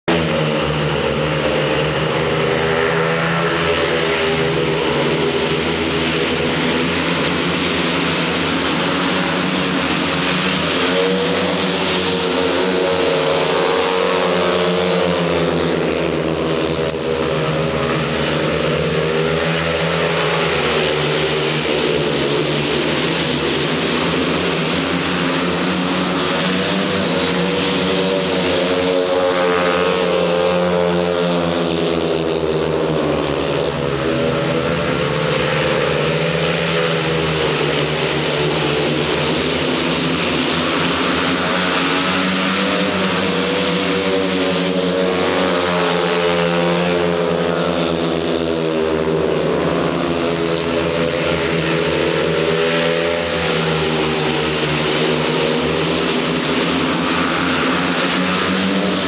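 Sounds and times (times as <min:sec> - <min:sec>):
motorcycle engines racing: 0:00.0 - 0:59.0.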